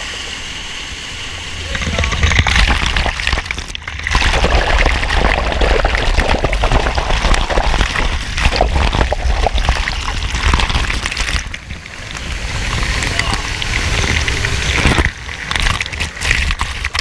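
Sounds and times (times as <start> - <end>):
waterfall rushing and splashing: 0.0 - 17.0.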